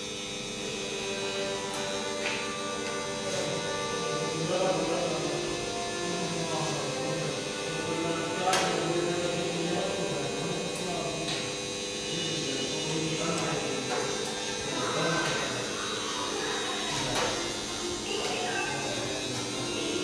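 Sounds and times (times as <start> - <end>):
electric motor hum and buzz: 0.0 - 20.0.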